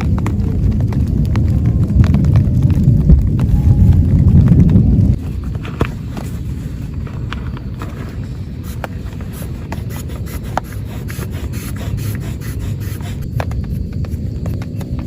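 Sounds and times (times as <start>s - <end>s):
heavy rain on tent fabric: 0.0s - 13.3s.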